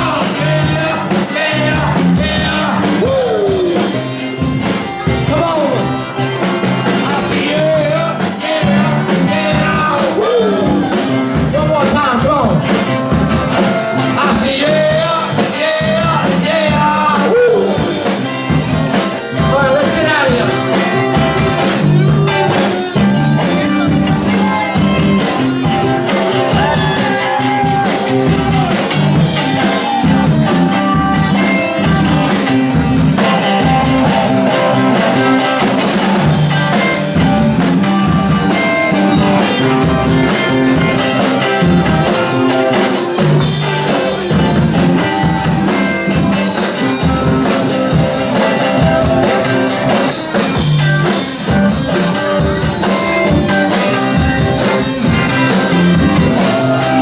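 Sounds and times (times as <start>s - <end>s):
drum kit with cymbals: 0.0s - 57.0s
electric guitar: 0.0s - 57.0s.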